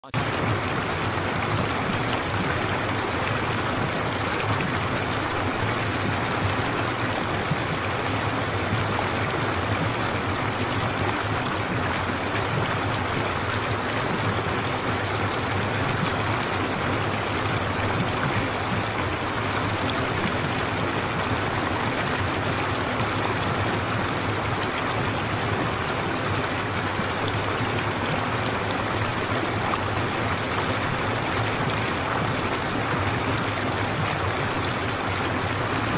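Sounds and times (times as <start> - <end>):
stream flowing: 0.0 - 35.9.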